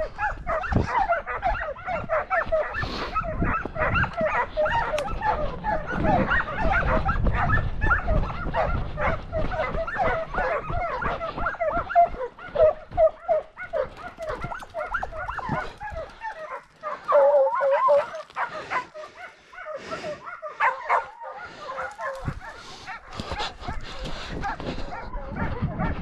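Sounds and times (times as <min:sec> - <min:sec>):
hounds baying: 0:00.0 - 0:26.0.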